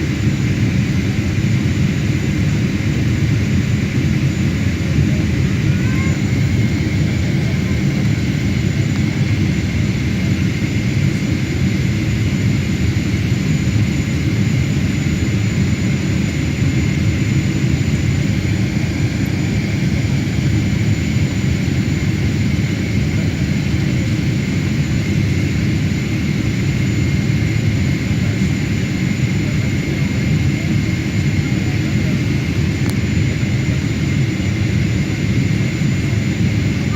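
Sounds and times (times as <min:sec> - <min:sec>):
jet engine rumble and whine: 0:00.0 - 0:36.9.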